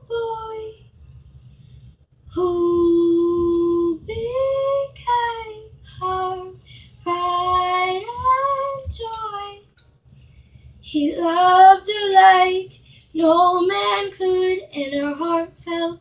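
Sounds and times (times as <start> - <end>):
girl singing unaccompanied: 0.0 - 0.8, 2.3 - 9.6, 10.9 - 16.0.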